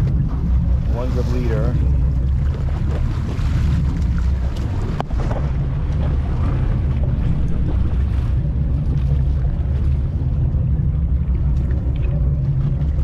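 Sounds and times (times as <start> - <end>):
boat engine running: 0.0 - 13.0
water rushing past hull: 0.0 - 13.0
wind on microphone: 0.0 - 13.0.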